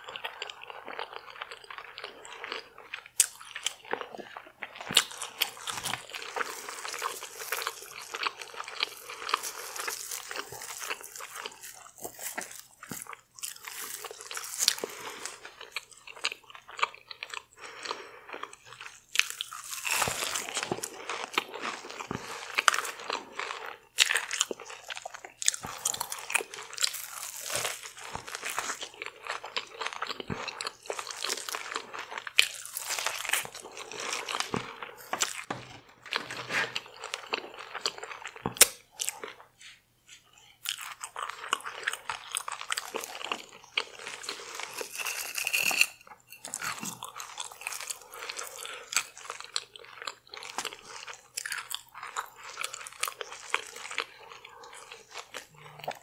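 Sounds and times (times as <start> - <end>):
crunchy biting and chewing: 0.0 - 39.4, 40.6 - 56.0.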